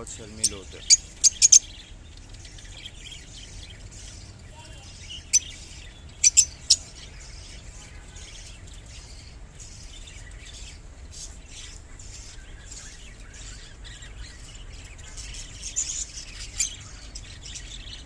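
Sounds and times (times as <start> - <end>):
birds chirping and chattering: 0.0 - 18.0.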